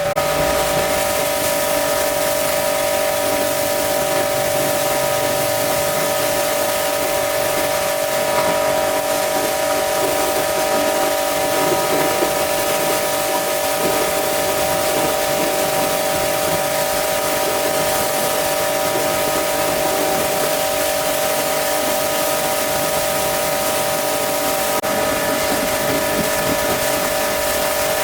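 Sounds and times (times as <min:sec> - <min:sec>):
pressure washer motor whine: 0:00.0 - 0:28.0
water jet spraying: 0:00.0 - 0:28.0.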